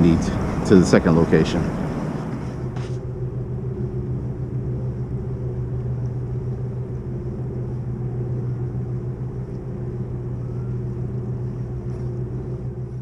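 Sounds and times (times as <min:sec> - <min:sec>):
small motor humming: 0:01.6 - 0:13.0.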